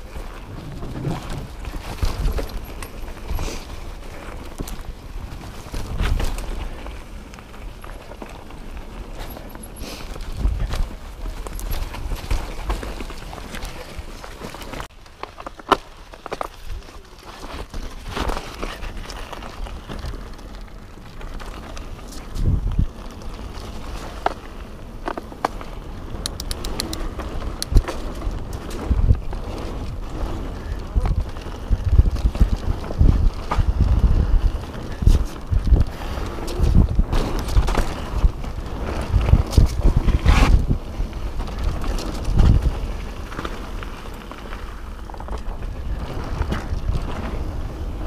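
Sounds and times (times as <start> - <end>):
bike rattles and clicks: 0.0 - 48.0
tyre and wind noise: 0.0 - 48.0.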